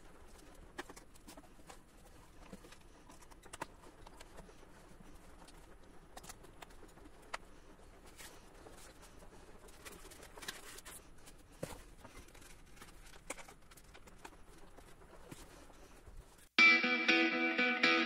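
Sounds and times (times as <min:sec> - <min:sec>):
foam parts rustling: 0:00.0 - 0:16.5.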